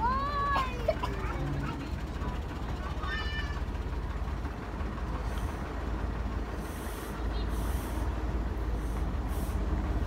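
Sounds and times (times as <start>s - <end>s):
vehicle rumble and road noise: 0.0s - 10.0s.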